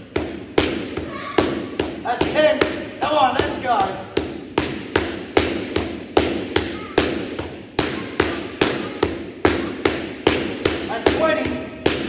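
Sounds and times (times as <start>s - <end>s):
boxing gloves hitting mitts: 0.0s - 12.0s.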